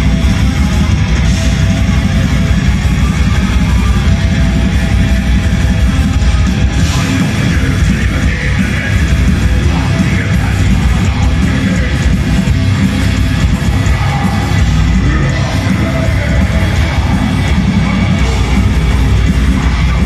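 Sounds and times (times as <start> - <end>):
metal band playing live: 0.0 - 20.0.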